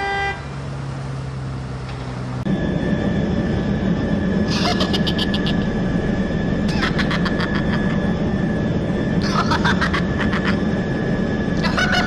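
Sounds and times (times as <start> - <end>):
constant high whine: 0.0 - 12.0
engine-like drone: 0.0 - 12.0.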